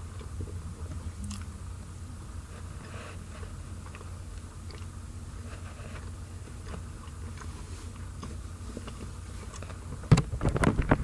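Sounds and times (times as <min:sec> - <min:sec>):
crunchy chewing: 0:00.0 - 0:01.6, 0:02.4 - 0:09.9
steady low hum: 0:00.0 - 0:11.0.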